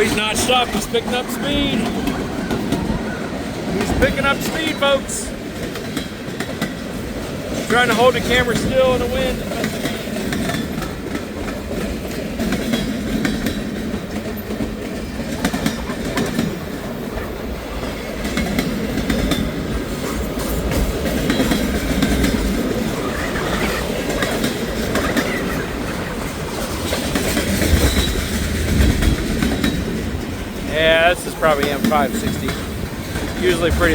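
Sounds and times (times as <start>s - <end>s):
train wheels clattering on rails: 0.0s - 33.9s
wind buffeting microphone: 0.0s - 33.9s.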